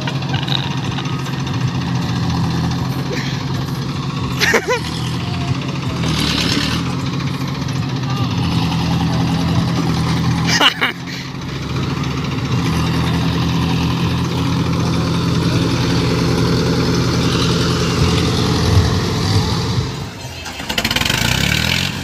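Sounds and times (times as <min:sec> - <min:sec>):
tractor engines running under load: 0:00.0 - 0:22.0.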